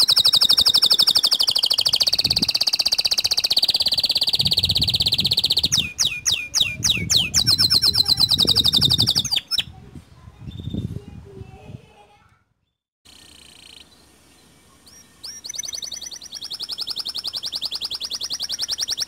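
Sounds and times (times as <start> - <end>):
canary singing trills: 0.0 - 9.8, 13.1 - 19.0.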